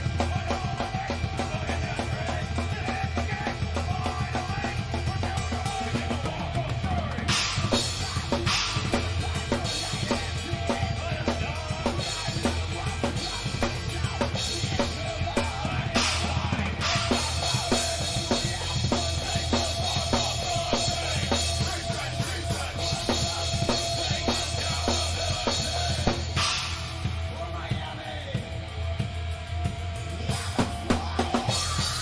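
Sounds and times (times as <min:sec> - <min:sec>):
drum kit beat: 0:00.0 - 0:32.0
live rock band playing: 0:00.0 - 0:32.0.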